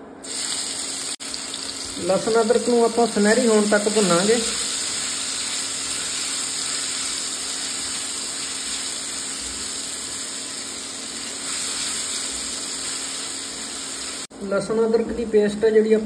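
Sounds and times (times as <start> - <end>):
paste sizzling in hot oil: 0.2 - 14.3.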